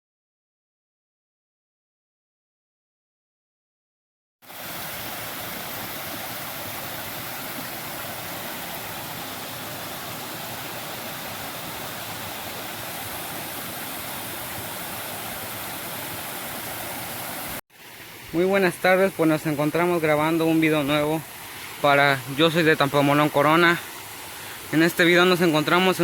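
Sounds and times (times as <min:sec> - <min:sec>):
rushing stream water: 0:04.4 - 0:26.0.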